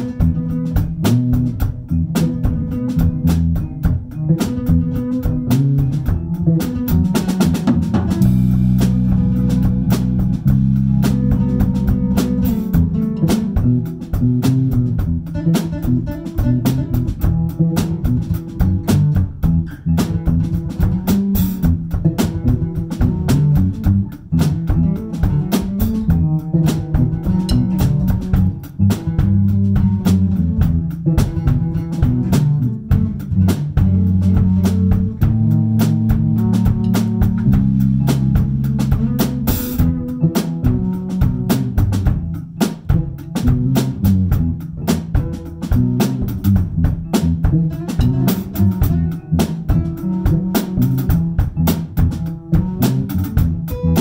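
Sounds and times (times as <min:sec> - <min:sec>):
band playing instrumental jam: 0:00.0 - 0:54.0
drum kit groove: 0:00.0 - 0:54.0.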